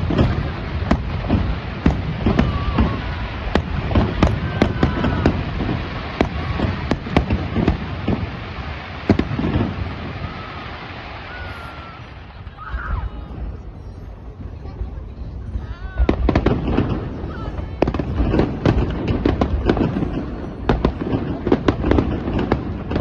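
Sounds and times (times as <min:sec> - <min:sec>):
fireworks bangs with low rumble: 0:00.0 - 0:23.0.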